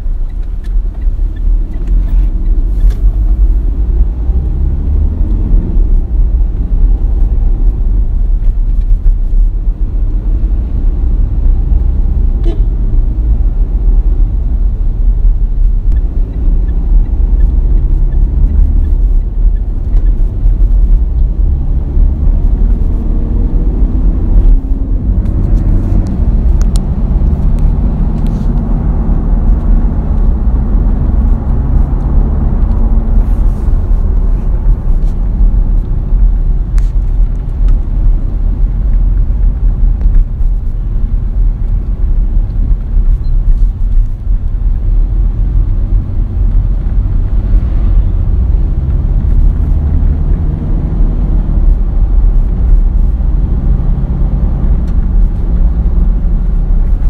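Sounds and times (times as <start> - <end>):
diesel engine rumble in cabin: 0.0 - 57.0
road noise: 0.0 - 57.0.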